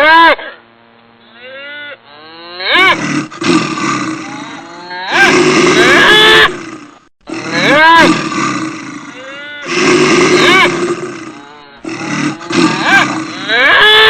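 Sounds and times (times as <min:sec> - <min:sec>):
animal calls and roars: 0:02.5 - 0:14.0.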